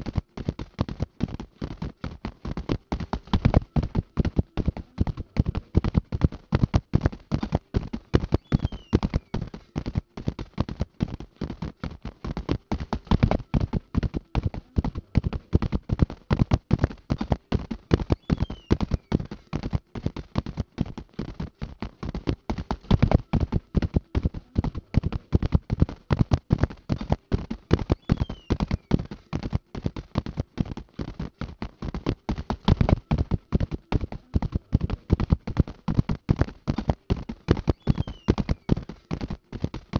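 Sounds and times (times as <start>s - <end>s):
horse hooves galloping: 0.0s - 39.9s.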